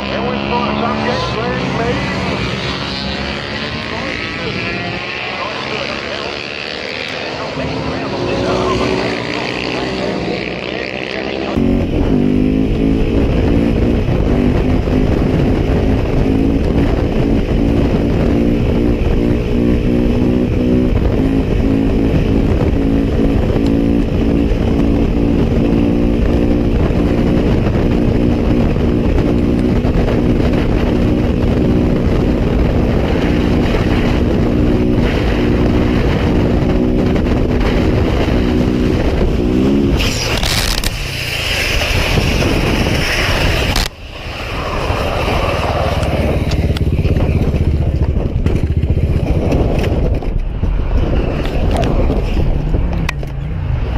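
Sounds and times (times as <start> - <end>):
motorcycle engine running: 0.0 - 41.1, 44.8 - 53.4
dull rushing rumble: 0.0 - 53.9.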